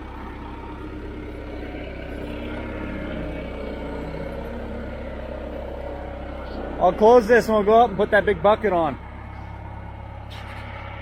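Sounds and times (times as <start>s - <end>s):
skid steer engine idling: 0.0s - 11.0s.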